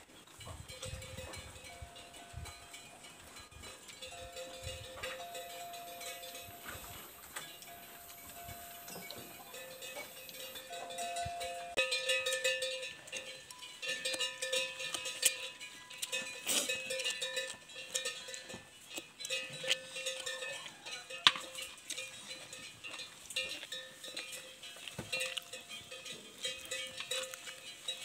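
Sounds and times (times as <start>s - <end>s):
neck bells clonking: 0.2s - 28.0s.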